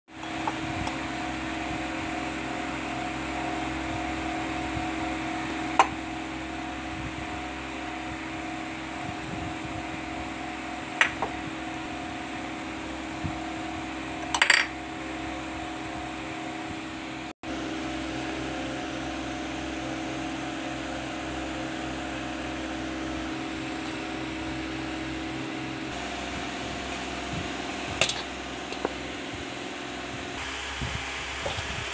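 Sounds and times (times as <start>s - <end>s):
appliance humming: 0.1s - 31.9s.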